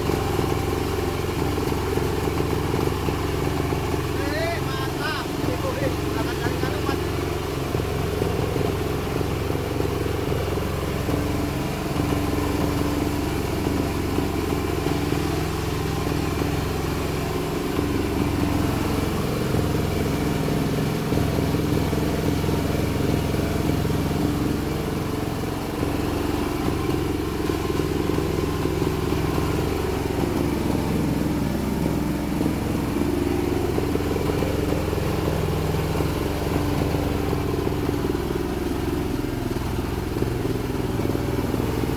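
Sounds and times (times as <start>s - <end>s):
grinding machine droning: 0.0s - 41.9s.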